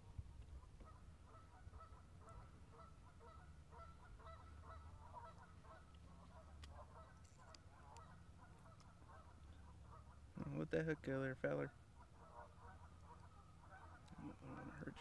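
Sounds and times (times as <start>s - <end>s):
low steady rumble: 0.0s - 15.0s
flock of birds honking: 0.8s - 10.3s, 12.0s - 15.0s.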